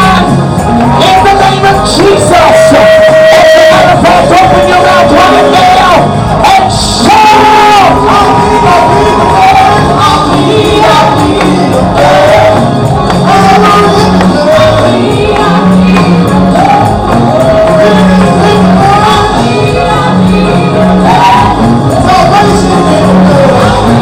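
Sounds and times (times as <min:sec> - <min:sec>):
band with low notes and beat: 0:00.0 - 0:24.0
voices singing gospel: 0:00.0 - 0:24.0.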